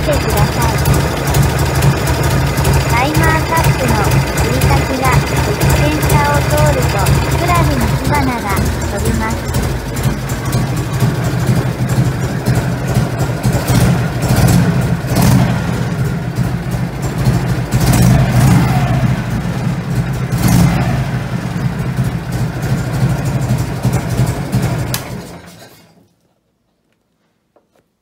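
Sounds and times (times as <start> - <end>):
motorcycle engine revving: 0.0 - 25.6.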